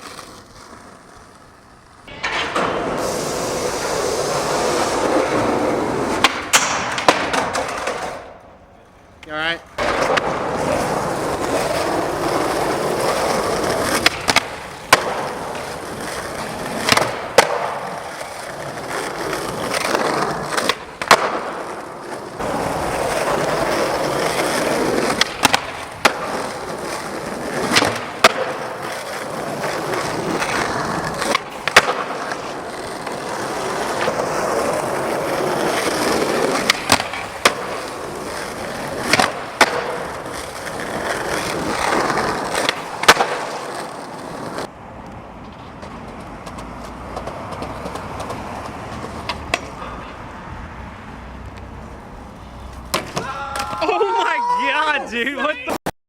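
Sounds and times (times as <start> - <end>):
skateboard clacking: 0.0 - 50.4, 52.7 - 55.8
skateboard wheels rolling on pavement: 0.0 - 55.9.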